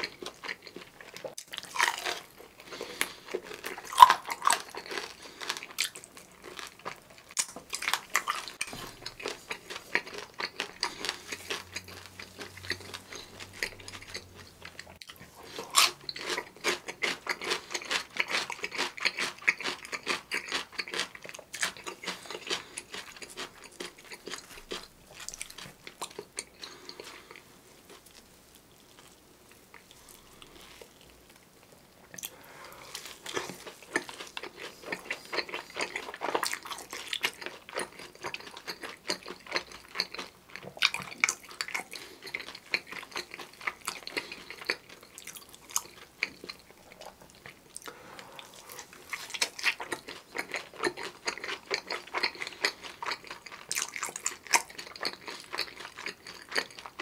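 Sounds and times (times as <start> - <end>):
crunchy chewing of fried chicken: 0.0 - 57.0.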